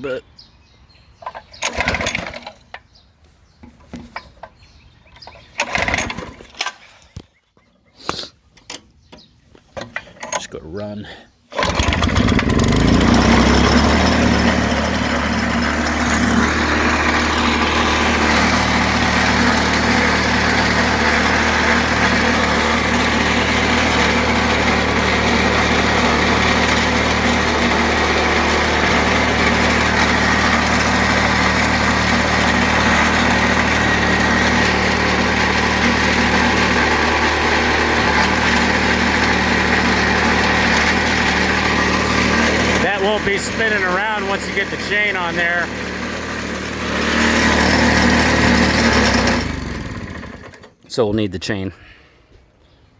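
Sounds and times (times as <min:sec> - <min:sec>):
small engine starting and running: 0:01.2 - 0:02.8, 0:05.2 - 0:07.0, 0:11.5 - 0:50.8.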